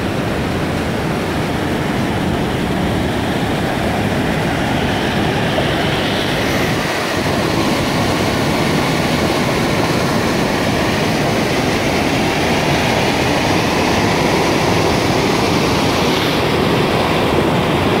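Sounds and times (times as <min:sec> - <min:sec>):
white water rushing: 0:00.0 - 0:18.0.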